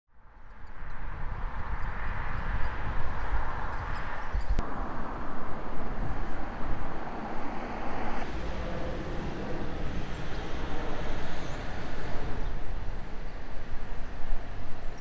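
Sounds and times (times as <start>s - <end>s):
distant road traffic: 0.3s - 15.0s.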